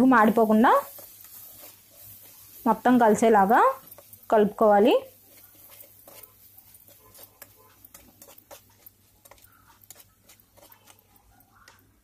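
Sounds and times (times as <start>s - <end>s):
metal spatula scraping a pot: 0.0s - 11.8s.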